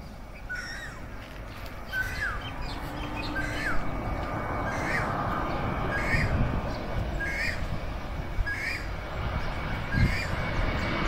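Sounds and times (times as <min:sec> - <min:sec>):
bird calling: 0:00.0 - 0:11.0
jet airliner rumble: 0:00.0 - 0:11.0.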